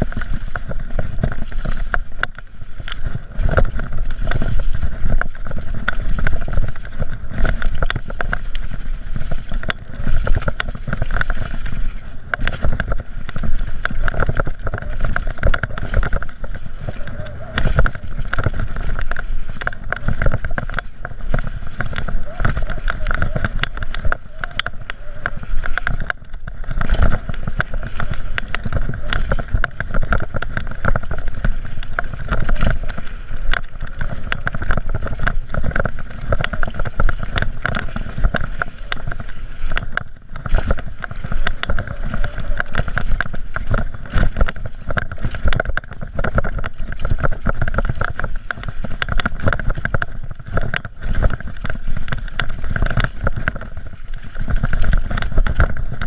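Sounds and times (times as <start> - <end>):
mountain bike rattling over trail: 0.0 - 56.0.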